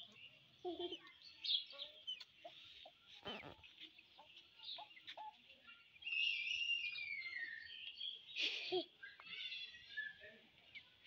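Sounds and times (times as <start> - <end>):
chickens calling: 0.0 - 11.0
small birds chirping: 0.0 - 11.0.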